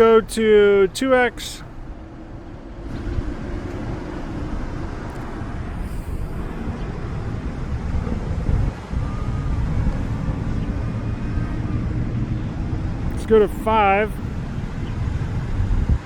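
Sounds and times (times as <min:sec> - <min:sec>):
rumble of passing cars: 0:00.0 - 0:16.0.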